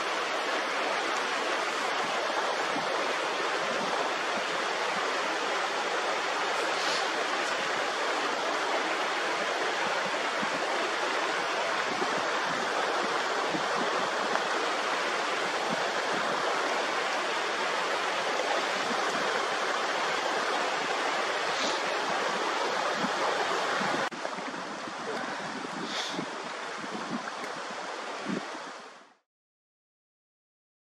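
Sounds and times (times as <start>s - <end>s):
stream rushing over rocks: 0.0s - 29.2s.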